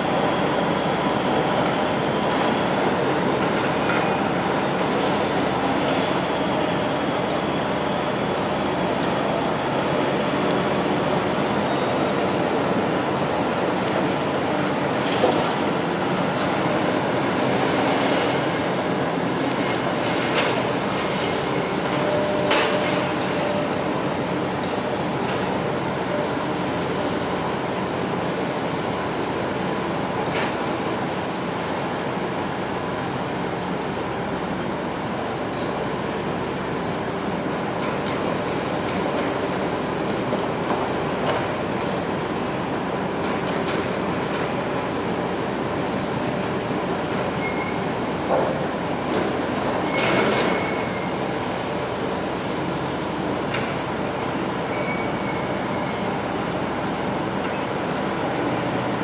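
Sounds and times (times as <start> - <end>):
construction machinery drone: 0.0 - 59.0.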